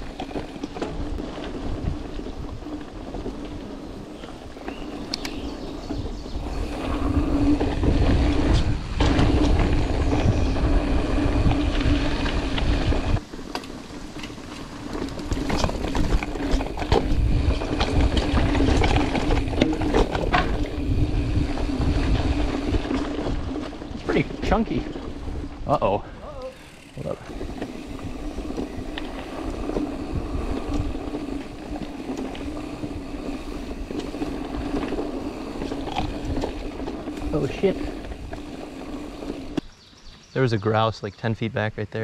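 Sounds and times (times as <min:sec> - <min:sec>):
bike rattling over bumps: 0:00.0 - 0:39.9
wind rumbling on microphone: 0:00.0 - 0:40.1
bike tyre noise on dirt: 0:00.0 - 0:41.2.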